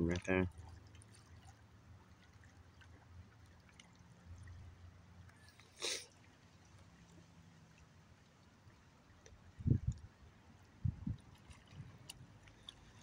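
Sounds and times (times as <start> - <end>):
water lapping and trickling: 0.0 - 13.0.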